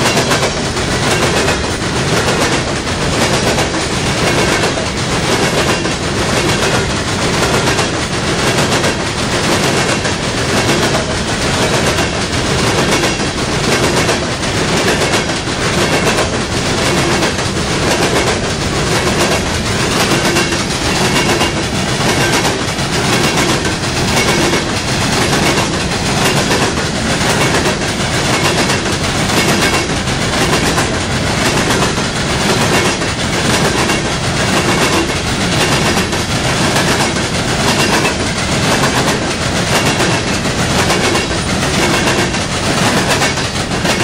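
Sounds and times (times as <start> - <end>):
train wheels rumbling on rails: 0.0 - 44.0
wheel clicks on rail joints: 0.0 - 44.0.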